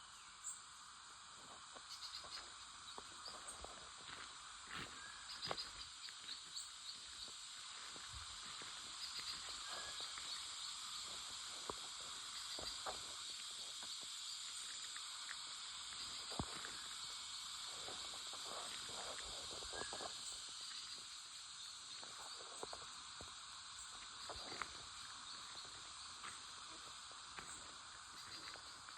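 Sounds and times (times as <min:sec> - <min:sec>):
high-pitched hiss: 0:00.0 - 0:28.9.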